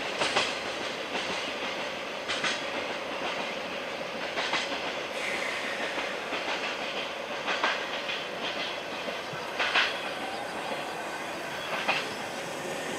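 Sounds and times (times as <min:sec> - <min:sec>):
wheel clacks on track: 0:00.0 - 0:03.6, 0:04.2 - 0:05.0, 0:05.7 - 0:12.9
freight train rolling rumble: 0:00.0 - 0:12.9.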